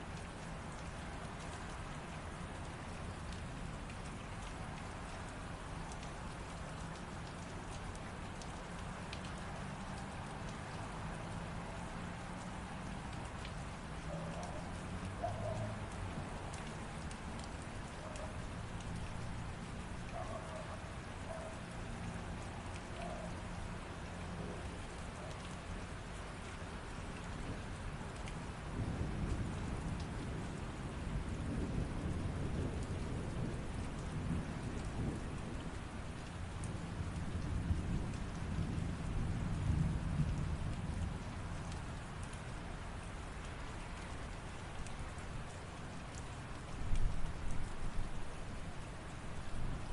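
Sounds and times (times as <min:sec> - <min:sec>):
light rain falling: 0:00.0 - 0:49.9.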